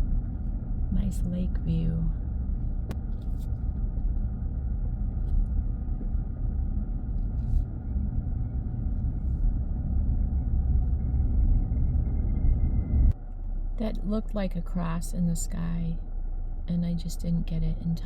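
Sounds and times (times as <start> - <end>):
faint steady whine: 0.0 - 18.0
road and engine rumble: 0.0 - 18.0.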